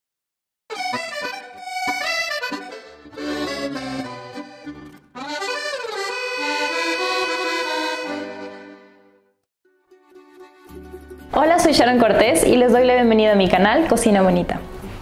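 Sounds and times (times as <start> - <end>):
instrumental intro music: 0.7 - 13.4.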